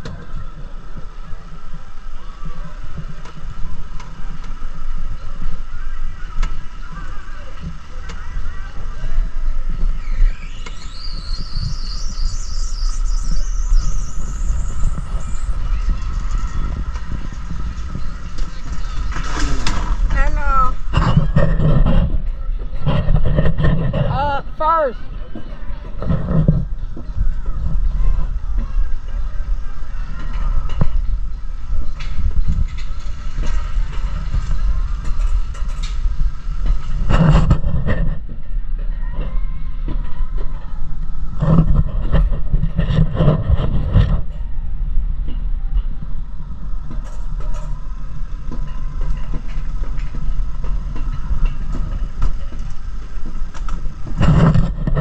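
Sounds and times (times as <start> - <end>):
cart rumbling on rail track: 0.0 - 55.0
high whine: 0.0 - 55.0.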